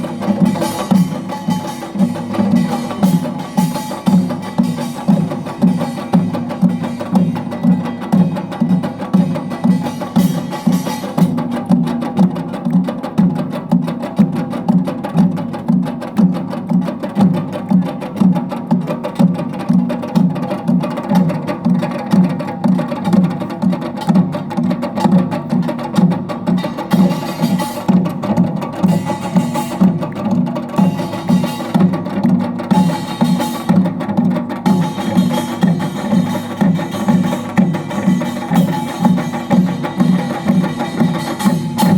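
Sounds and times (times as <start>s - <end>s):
rapid metallic percussion strokes: 0.0s - 41.9s
steady drum beats: 0.0s - 41.9s.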